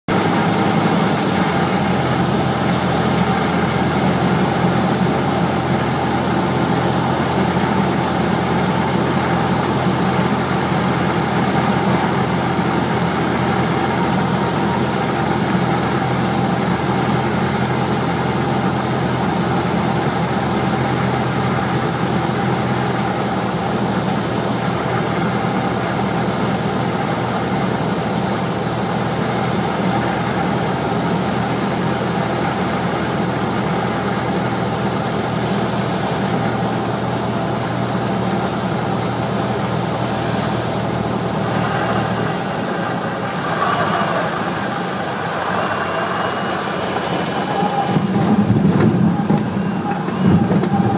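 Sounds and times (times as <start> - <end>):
light aircraft engine drone: 0.1 - 50.9.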